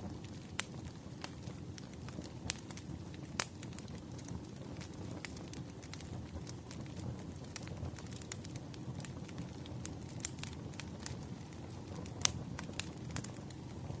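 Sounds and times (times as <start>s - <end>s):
campfire crackling: 0.0s - 14.0s
fire pops and snaps: 0.0s - 14.0s.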